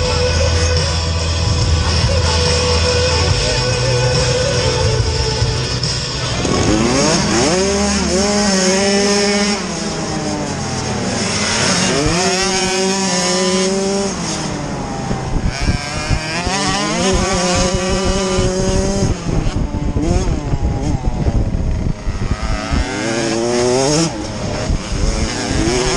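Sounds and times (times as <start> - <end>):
motorcycle engines accelerating: 0.0 - 25.9.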